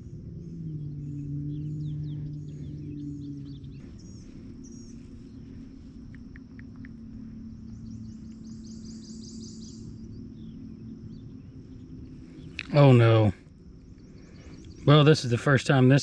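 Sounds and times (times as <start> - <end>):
birds calling: 0.0 - 16.0
steady low hum: 0.0 - 16.0.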